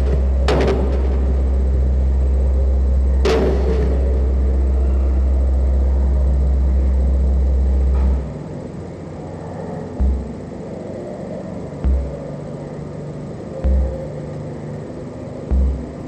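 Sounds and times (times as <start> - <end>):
deep electronic bass drone: 0.0 - 16.0.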